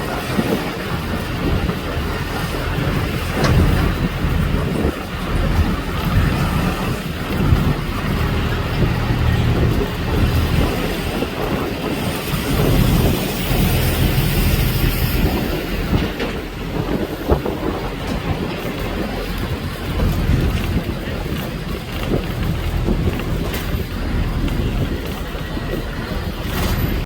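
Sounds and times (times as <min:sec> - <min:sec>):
knocks and clatter: 0:00.0 - 0:27.0
vehicle rumbling in motion: 0:00.0 - 0:27.0.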